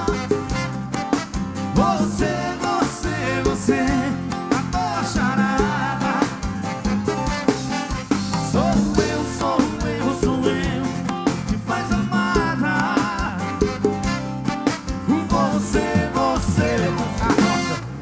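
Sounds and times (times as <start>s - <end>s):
live band music: 0.0s - 18.0s
steady drum beat: 0.0s - 18.0s.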